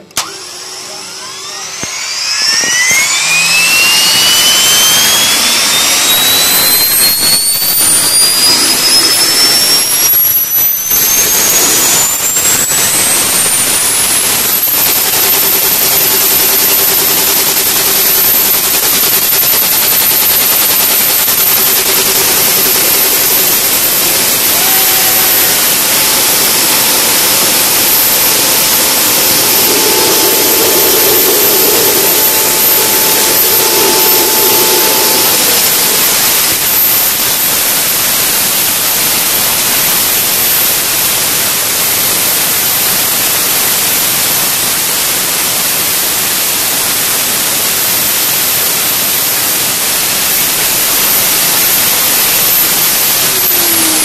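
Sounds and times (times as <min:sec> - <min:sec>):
faint rising whine: 0:00.0 - 0:54.0
jet engine roaring: 0:00.0 - 0:54.0.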